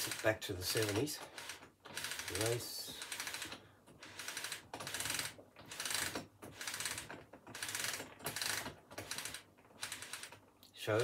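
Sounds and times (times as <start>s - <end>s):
roller mechanism ratcheting clatter: 0.0s - 11.0s.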